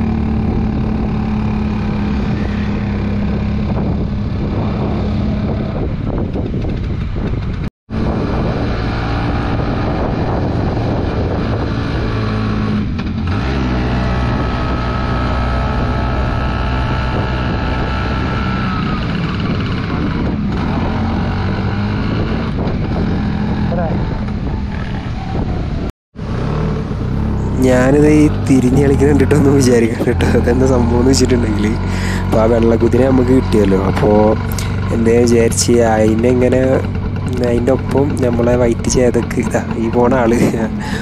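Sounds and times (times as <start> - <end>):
scooter engine running: 0.0 - 11.7, 12.8 - 25.1, 26.2 - 41.0
wind noise on microphone: 0.0 - 41.0.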